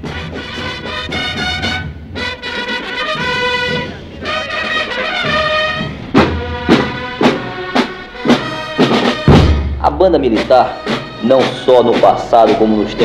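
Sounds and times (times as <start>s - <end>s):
brass holding chords: 0.0s - 13.0s
marching drum beats: 0.0s - 13.0s.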